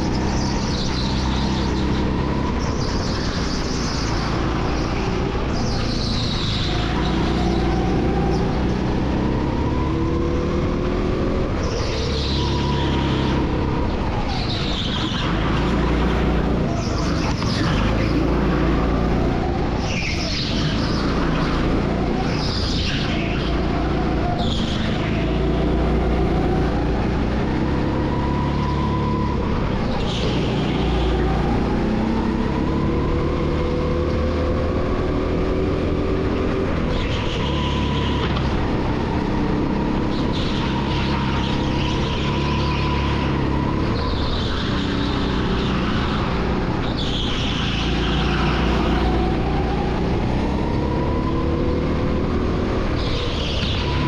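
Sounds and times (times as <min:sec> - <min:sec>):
go-kart motor revving: 0:00.0 - 0:54.0.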